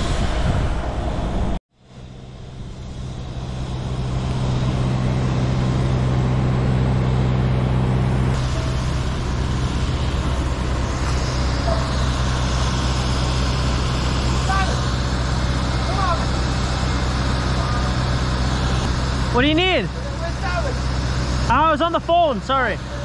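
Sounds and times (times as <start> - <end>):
heavy machinery engine humming: 0.8 - 23.0.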